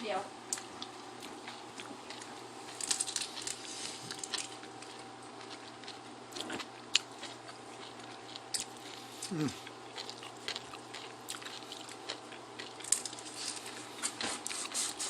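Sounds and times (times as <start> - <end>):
faint steady hum: 0.0 - 15.0
crunchy biting and chewing: 0.6 - 15.0.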